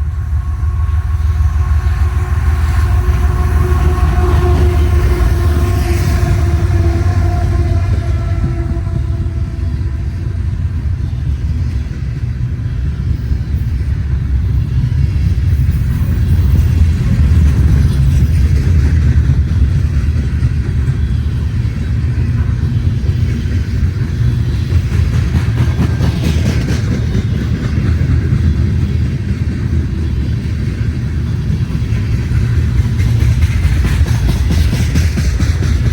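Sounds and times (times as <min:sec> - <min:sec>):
freight train rumbling past: 0:00.0 - 0:35.9.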